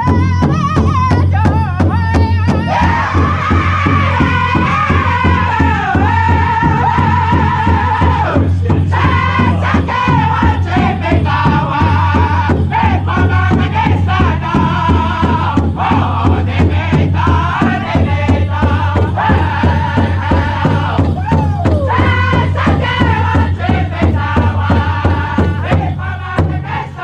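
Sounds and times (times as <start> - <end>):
large drum beating fast: 0.0 - 27.0
men singing high: 0.0 - 27.0.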